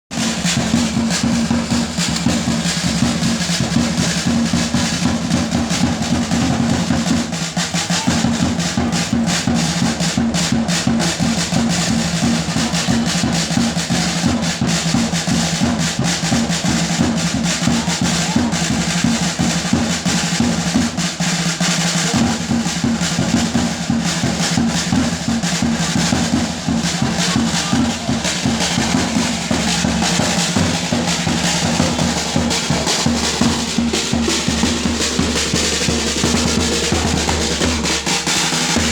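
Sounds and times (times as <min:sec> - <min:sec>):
fast continuous drumming: 0:00.1 - 0:38.9.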